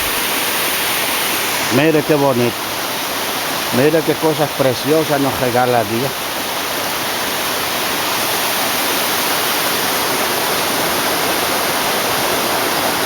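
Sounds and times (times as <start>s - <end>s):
waterfall pouring: 0.0s - 13.0s.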